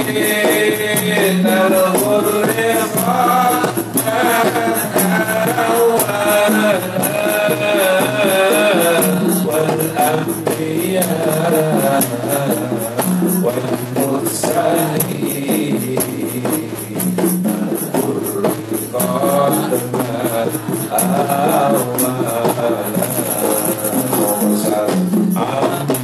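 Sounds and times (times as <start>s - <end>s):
frame drums and jingles: 0.0s - 26.0s
several voices singing devotional song: 0.0s - 26.0s.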